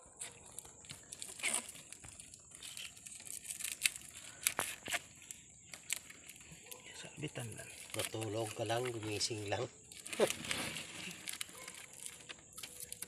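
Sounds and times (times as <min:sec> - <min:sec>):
fishing net rustling and crackling: 0:00.0 - 0:13.0.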